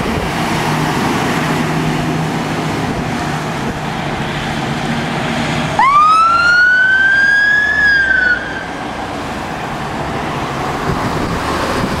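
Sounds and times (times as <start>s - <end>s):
road traffic noise: 0.0s - 12.0s
fire engine siren wail: 2.3s - 12.0s.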